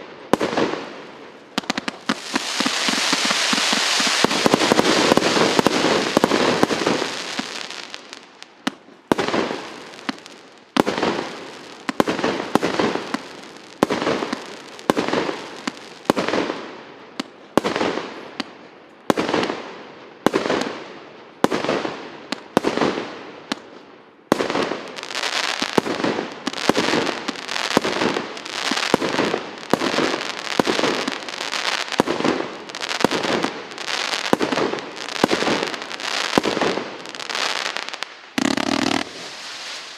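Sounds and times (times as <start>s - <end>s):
firework shots banging and crackling: 0.0s - 19.6s, 21.4s - 39.9s.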